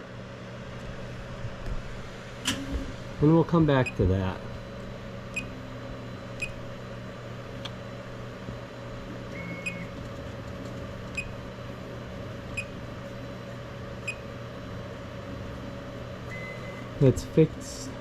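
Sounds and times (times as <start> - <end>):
printer fans humming: 0.0 - 18.0.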